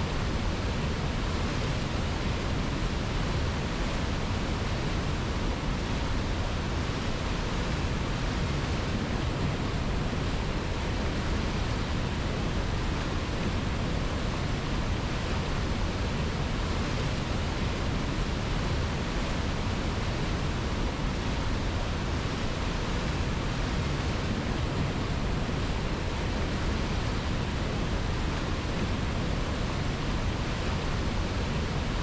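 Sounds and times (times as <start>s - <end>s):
river water rushing: 0.1s - 32.0s.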